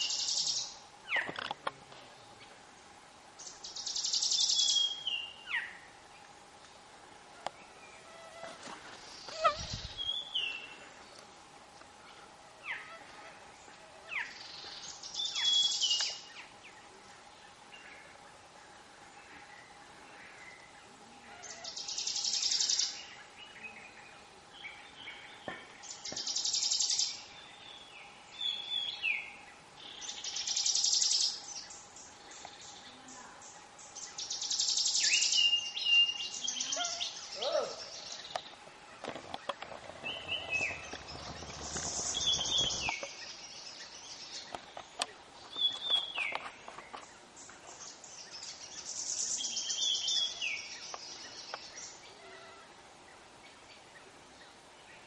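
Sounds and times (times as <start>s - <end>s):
forest birds calling: 0.0s - 55.0s.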